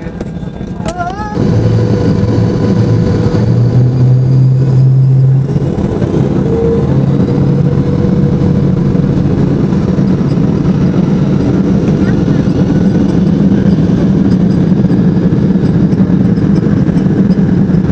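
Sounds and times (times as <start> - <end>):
faint engine whine: 0.0 - 17.9
jet engines low drone: 0.0 - 17.9.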